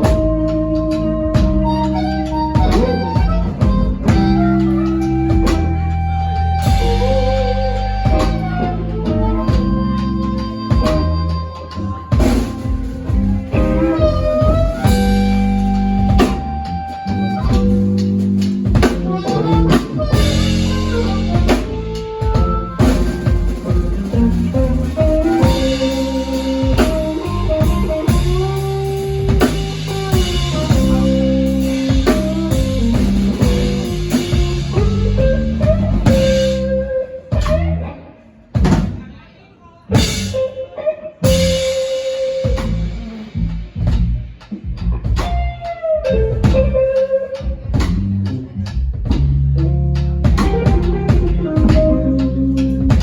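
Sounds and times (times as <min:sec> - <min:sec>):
lead guitar with string bends: 0:00.0 - 0:39.2, 0:39.9 - 0:53.0
blues band playing: 0:00.0 - 0:53.0.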